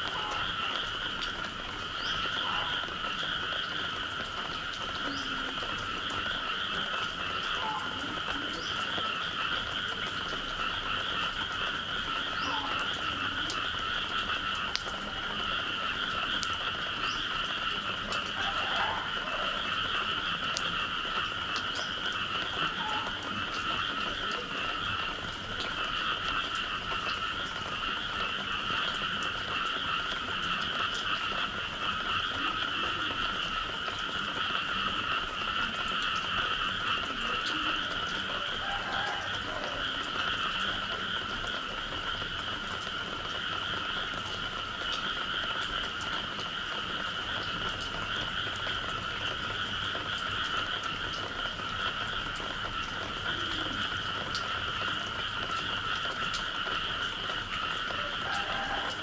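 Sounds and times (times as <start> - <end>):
chorus of frogs calling: 0.0 - 59.0.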